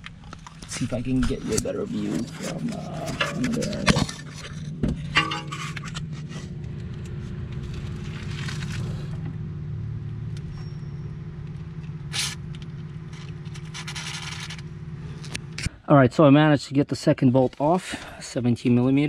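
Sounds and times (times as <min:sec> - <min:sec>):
low steady hum: 0:00.0 - 0:15.8.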